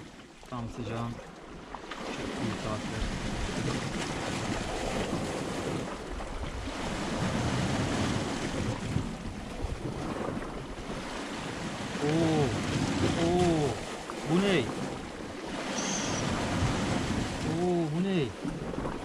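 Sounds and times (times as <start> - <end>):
sea water washing against rocks: 1.2 - 19.0
wind buffeting microphone: 2.0 - 19.0.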